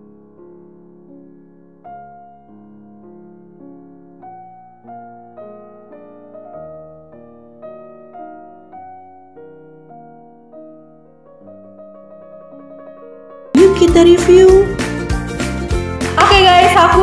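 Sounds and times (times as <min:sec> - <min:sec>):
gentle piano melody: 0:00.0 - 0:16.1.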